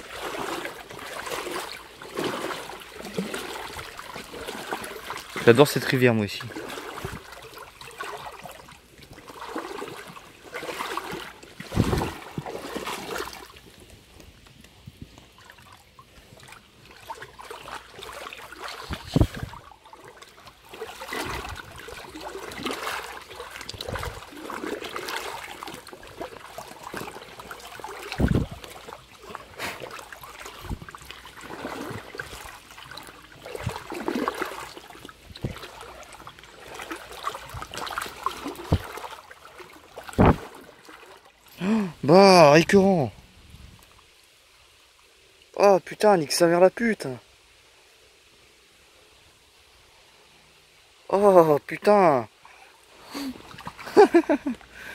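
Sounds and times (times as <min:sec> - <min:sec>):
river water splashing: 0:00.0 - 0:54.9.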